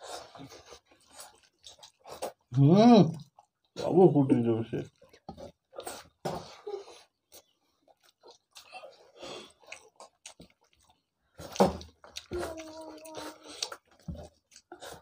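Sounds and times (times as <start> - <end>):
people chewing and lip-smacking: 0.0 - 4.0, 4.8 - 15.0.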